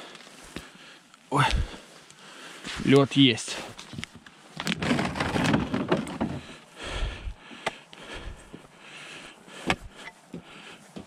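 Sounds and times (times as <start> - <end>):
rustling and breath noise: 0.0 - 11.0.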